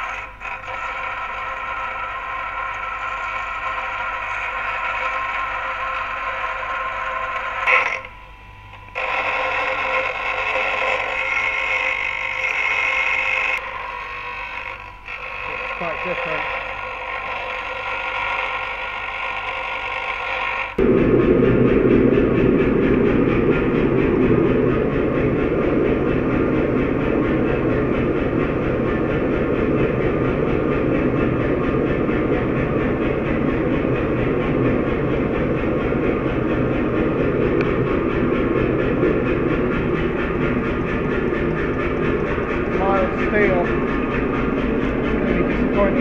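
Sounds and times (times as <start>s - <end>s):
gas forge burner rumbling: 0.0s - 19.6s, 20.6s - 46.0s
grinder whining: 0.0s - 46.0s.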